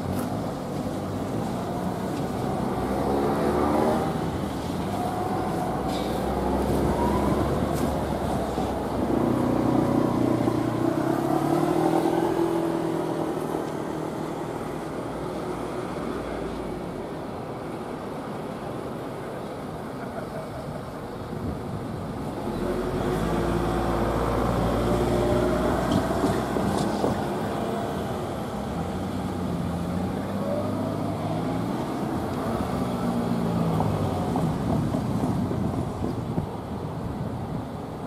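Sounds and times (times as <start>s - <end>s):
wheels rumbling on rails: 0.0s - 38.0s.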